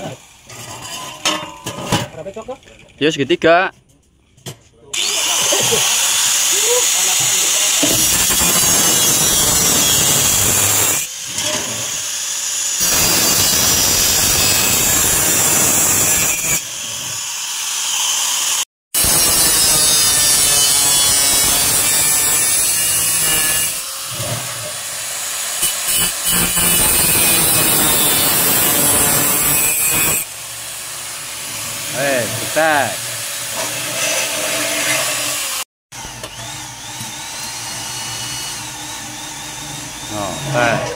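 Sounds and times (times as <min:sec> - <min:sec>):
angle grinder cutting metal: 0:04.9 - 0:40.9.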